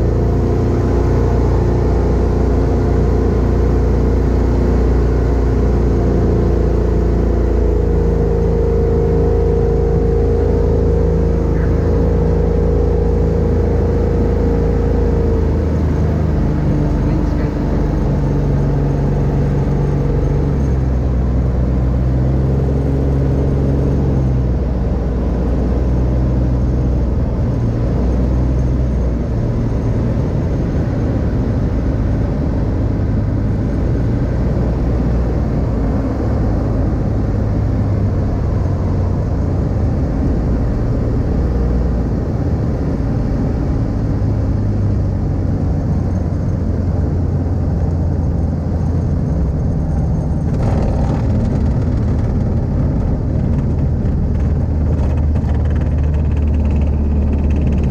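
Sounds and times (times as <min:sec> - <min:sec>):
microlight engine running: 0:00.0 - 0:57.9.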